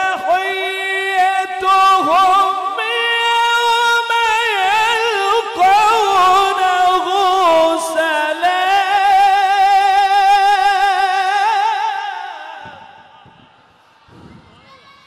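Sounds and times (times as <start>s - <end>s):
man chanting recitation: 0.0s - 13.2s.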